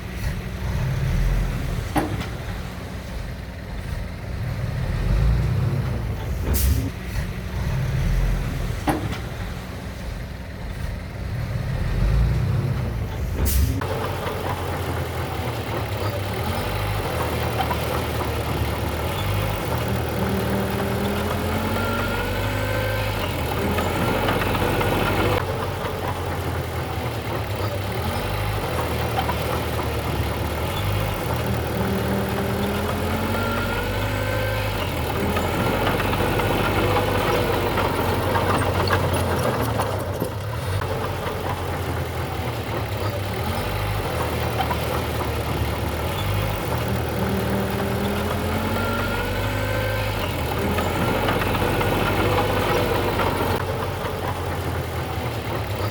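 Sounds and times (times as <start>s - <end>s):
heavy machinery diesel engine running: 0.0s - 55.9s.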